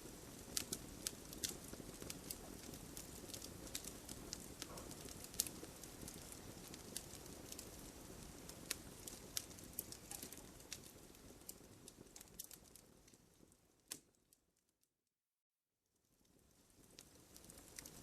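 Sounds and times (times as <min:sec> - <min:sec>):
campfire crackling: 0:00.0 - 0:14.4, 0:16.1 - 0:18.0.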